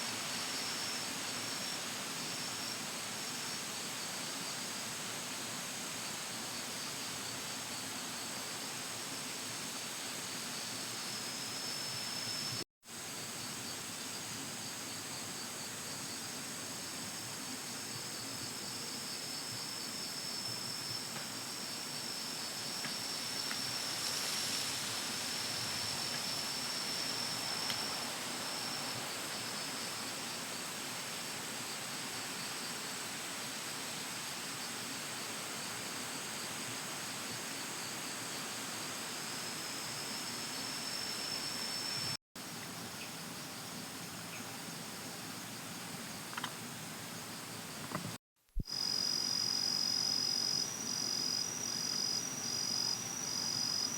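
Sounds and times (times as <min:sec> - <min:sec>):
background hiss: 0:00.0 - 0:53.9.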